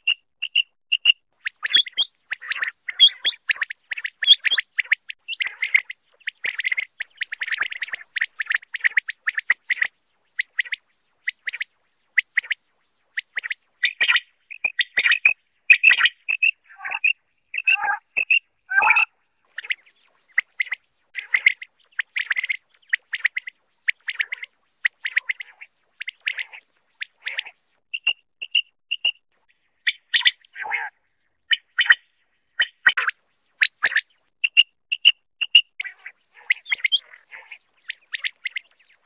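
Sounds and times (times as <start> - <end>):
quail chirping: 0.0 - 12.6, 13.2 - 29.2, 29.8 - 32.0, 32.6 - 39.0.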